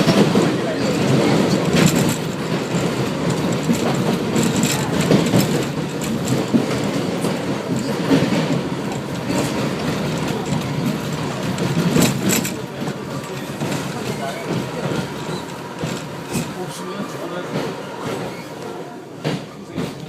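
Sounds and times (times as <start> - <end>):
subway car running noise: 0.0 - 20.0
wheels clacking over rail joints: 0.0 - 20.0.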